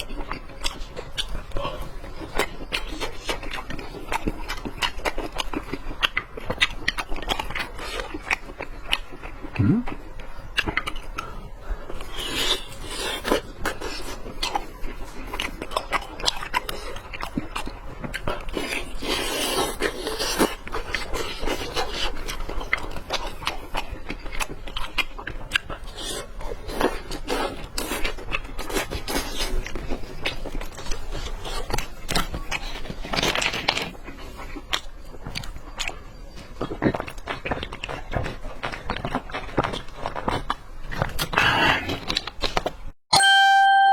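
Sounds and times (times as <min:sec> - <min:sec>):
chewing and biting chicken: 0:00.0 - 0:43.0.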